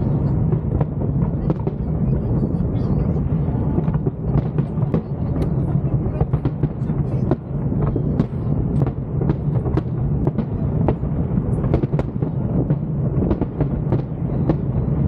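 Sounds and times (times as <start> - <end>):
fireworks booming: 0.0 - 15.0
sharp fireworks cracks: 0.0 - 15.0.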